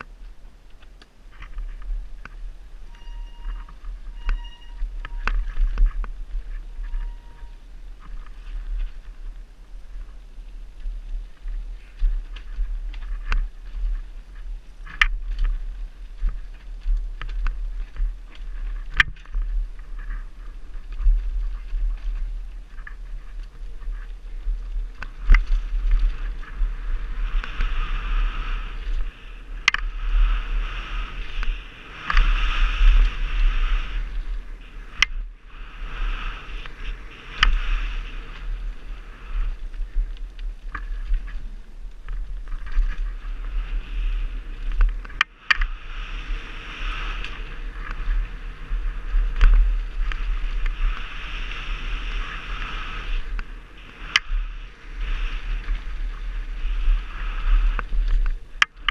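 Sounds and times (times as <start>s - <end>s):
bike rattling: 0.0s - 58.9s
wind buffeting camera: 0.0s - 58.9s.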